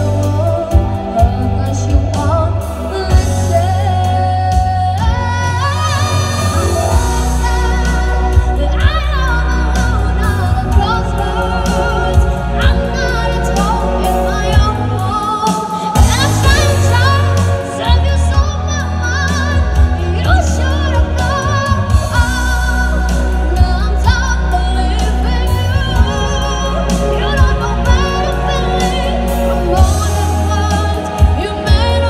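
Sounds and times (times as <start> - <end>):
backing music with heavy bass: 0.0 - 32.0.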